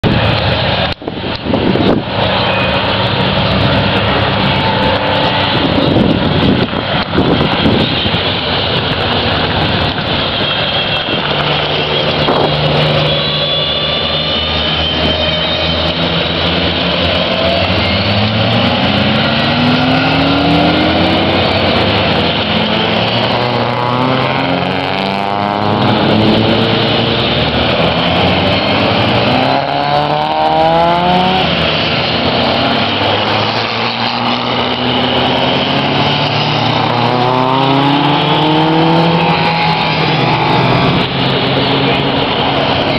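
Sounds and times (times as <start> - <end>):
racing car engines passing: 0.0 - 42.9.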